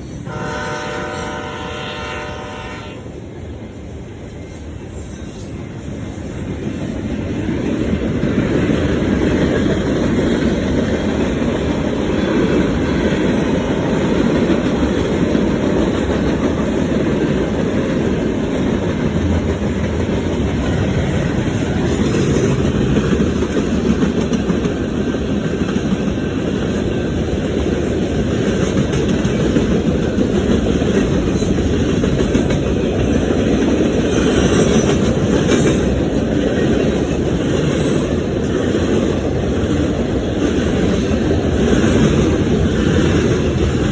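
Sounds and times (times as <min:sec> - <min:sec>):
steel wheels on rail: 0:00.0 - 0:43.9
clickety-clack over rail joints: 0:04.3 - 0:43.9.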